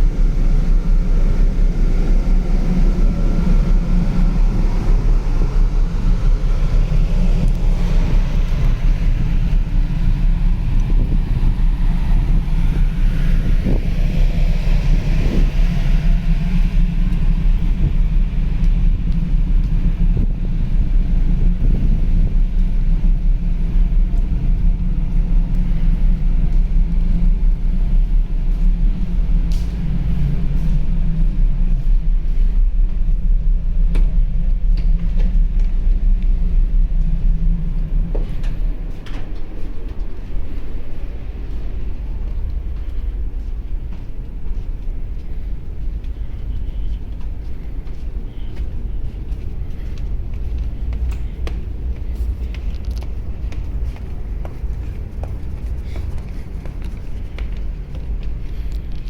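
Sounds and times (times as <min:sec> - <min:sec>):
ferry engine low rumble: 0:00.0 - 0:59.0.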